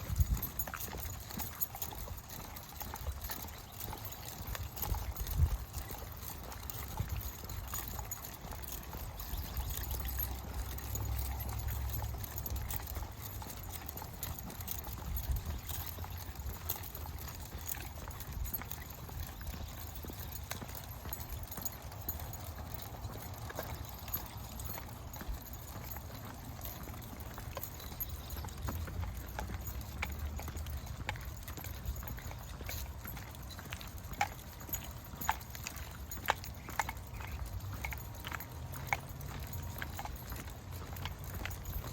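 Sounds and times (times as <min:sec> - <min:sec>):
footsteps on a trail: 0:00.0 - 0:41.9.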